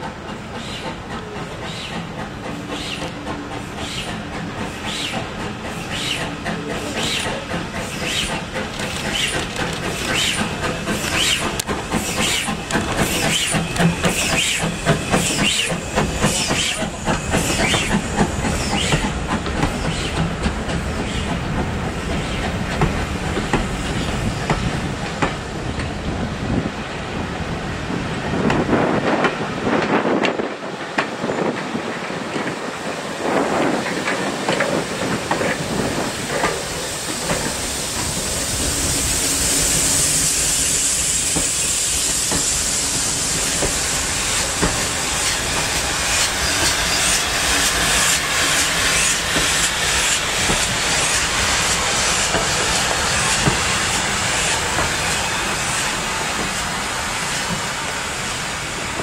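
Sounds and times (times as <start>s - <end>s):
steam hissing: 0.0s - 30.5s, 31.1s - 59.0s
steam locomotive knocking and clattering: 0.0s - 59.0s.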